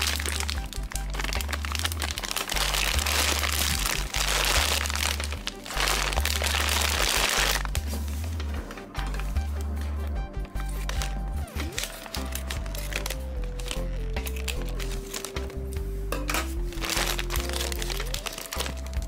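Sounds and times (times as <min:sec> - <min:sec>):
plastic bag crinkling: 0:00.0 - 0:08.4, 0:10.6 - 0:15.7, 0:16.6 - 0:19.0
background music with bass line: 0:00.0 - 0:19.0.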